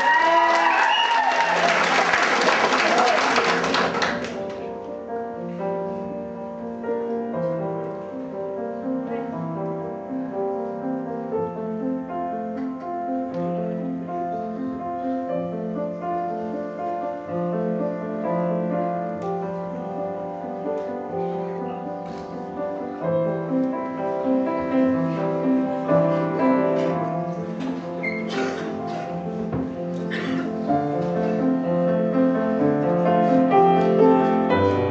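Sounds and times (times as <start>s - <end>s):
slow grand piano piece: 0.0s - 34.9s.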